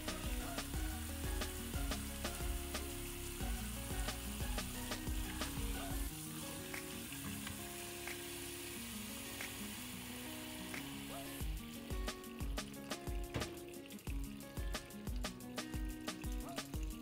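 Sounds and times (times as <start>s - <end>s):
background music with a beat: 0.0s - 7.1s, 8.0s - 8.3s, 9.4s - 9.7s, 10.7s - 17.0s
tap water running: 0.0s - 17.0s.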